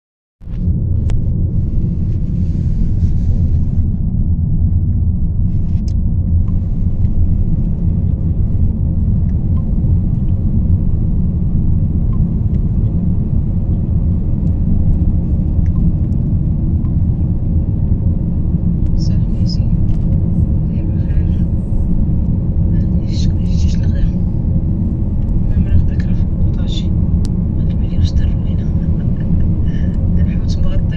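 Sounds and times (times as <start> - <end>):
car engine rumble: 0.4 - 30.9.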